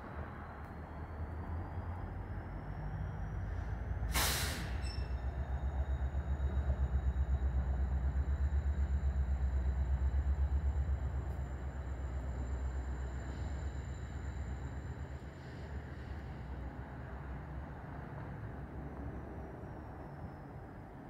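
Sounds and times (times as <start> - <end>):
railcars rolling rumble: 0.0 - 21.0.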